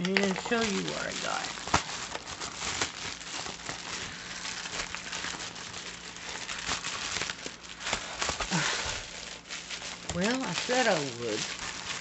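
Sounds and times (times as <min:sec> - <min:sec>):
plastic mailer crinkling: 0:00.0 - 0:12.0.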